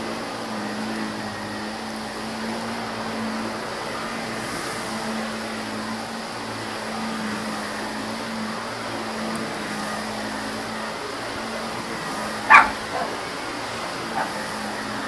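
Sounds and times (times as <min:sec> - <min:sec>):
vacuum cleaner running over carpet: 0:00.0 - 0:15.0.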